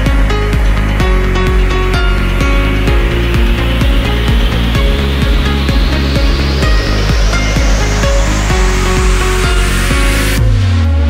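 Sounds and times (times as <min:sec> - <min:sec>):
bass line: 0:00.0 - 0:11.0
kick drum: 0:00.0 - 0:11.0
rising whoosh: 0:00.0 - 0:11.0.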